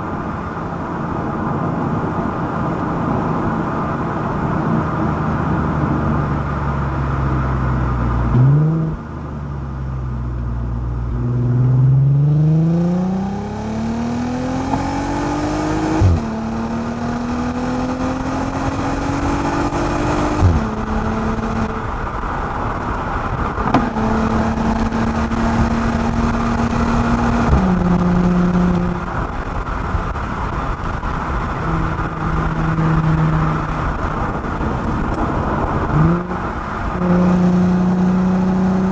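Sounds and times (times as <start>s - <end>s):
car exhaust accelerating through gears: 0.0s - 38.9s.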